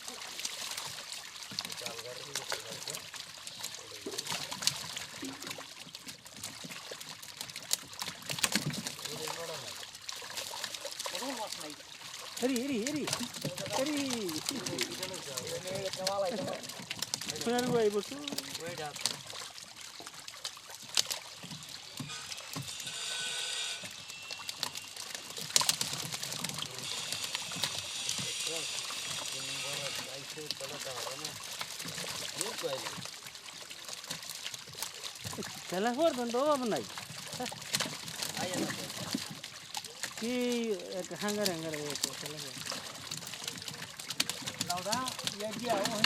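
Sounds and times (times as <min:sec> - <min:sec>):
water dripping: 0:00.0 - 0:46.0
water trickling and splashing: 0:00.0 - 0:46.0.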